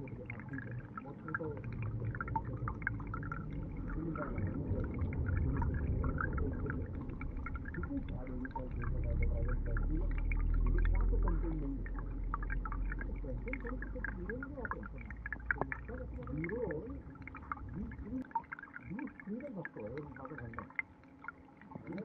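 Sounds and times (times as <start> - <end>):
stream water heard underwater: 0.0 - 22.0.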